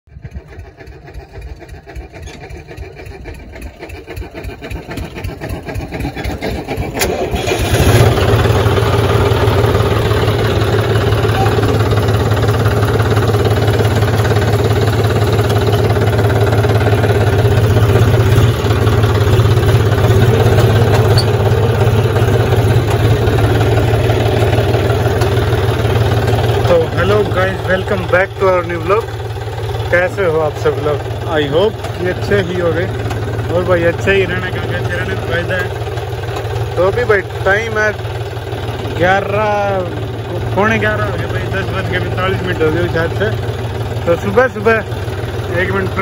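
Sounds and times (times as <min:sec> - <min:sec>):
tractor diesel engine chugging: 0:00.1 - 0:46.0.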